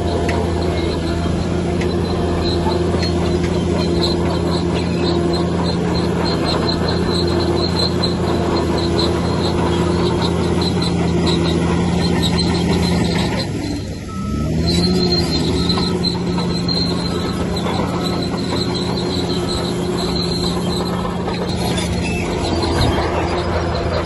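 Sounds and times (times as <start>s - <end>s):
diesel engine running under load: 0.0s - 24.0s
steel tracks squeaking: 0.0s - 24.0s.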